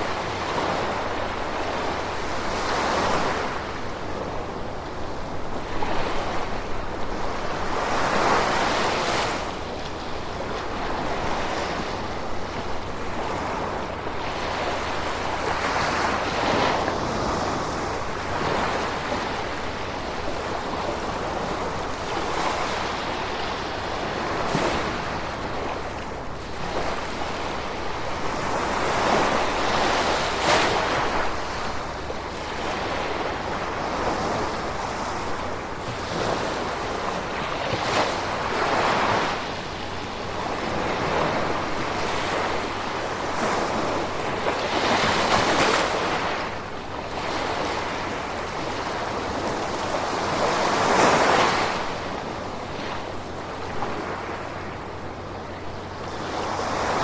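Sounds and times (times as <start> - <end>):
gentle ocean waves: 0.0 - 57.0.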